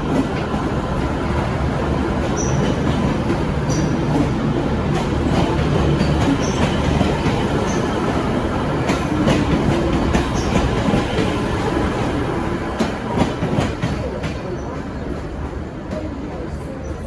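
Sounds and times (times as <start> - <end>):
diesel train rumbling by: 0.0 - 17.0.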